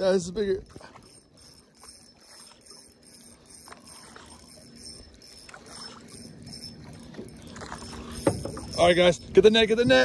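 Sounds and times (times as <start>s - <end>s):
fishing reel gears ticking: 0.0s - 10.0s.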